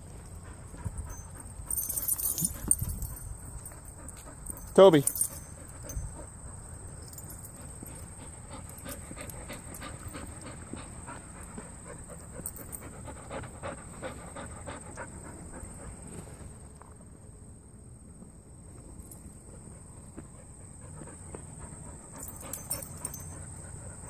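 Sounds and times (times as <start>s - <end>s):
dogs panting: 0.0s - 17.1s, 19.4s - 24.0s.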